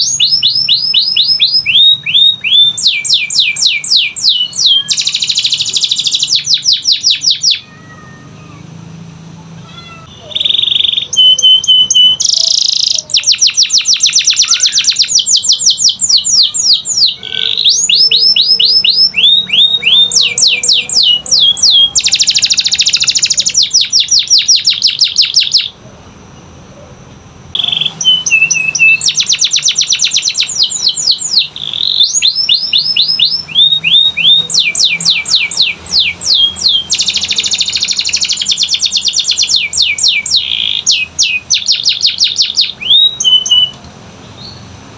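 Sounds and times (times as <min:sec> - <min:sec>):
canary singing fast trills: 0:00.0 - 0:08.9, 0:09.8 - 0:26.6, 0:27.5 - 0:44.9.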